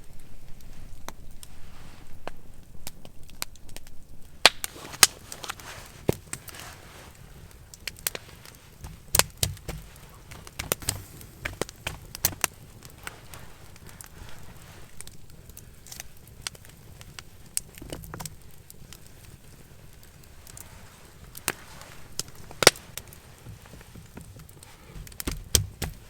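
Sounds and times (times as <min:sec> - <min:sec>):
wood cracking and snapping: 0:02.2 - 0:26.0.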